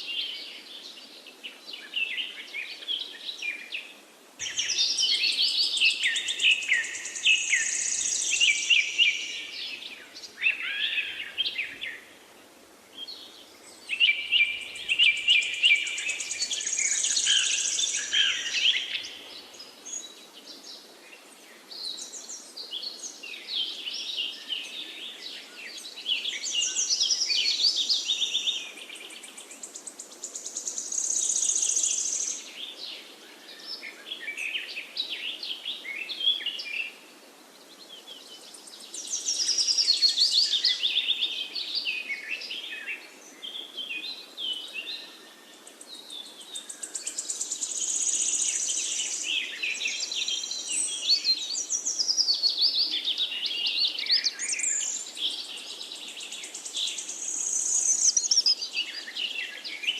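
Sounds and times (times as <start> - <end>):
faint steady hiss: 0.0 - 59.9
songbirds trilling and chirping: 0.0 - 59.9.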